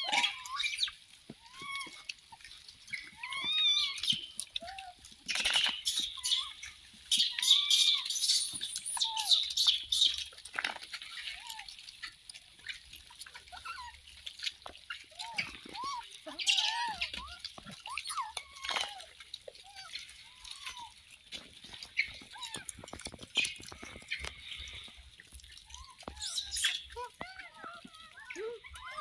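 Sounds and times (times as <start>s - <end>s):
monkeys calling: 0.0s - 14.2s, 14.8s - 29.0s.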